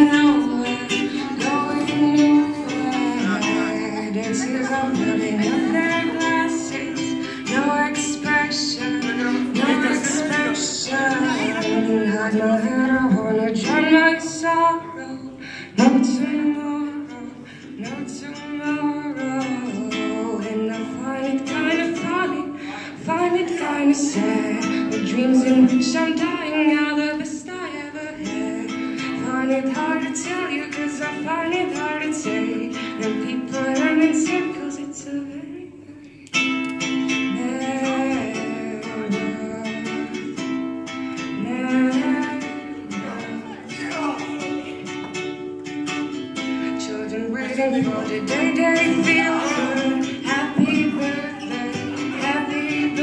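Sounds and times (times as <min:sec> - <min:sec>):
strummed ukulele: 0:00.0 - 0:53.0
woman singing: 0:00.0 - 0:53.0.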